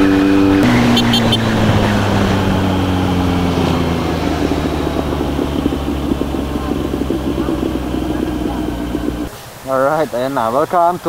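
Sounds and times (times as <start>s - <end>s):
motorcycle engine slowing down: 0.0s - 9.3s
road and wind noise: 0.0s - 11.0s.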